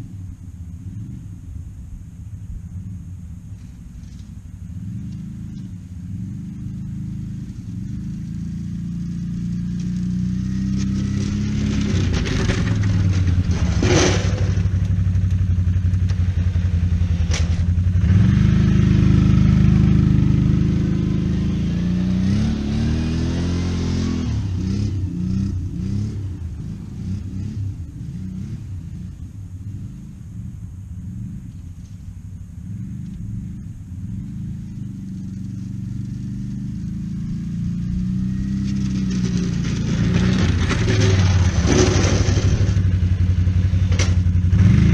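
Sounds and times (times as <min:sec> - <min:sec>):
vehicle engine revving: 0:02.7 - 0:44.9.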